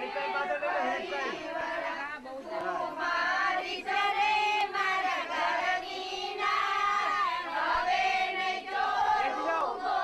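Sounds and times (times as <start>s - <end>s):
women singing in unison: 0.0s - 10.0s.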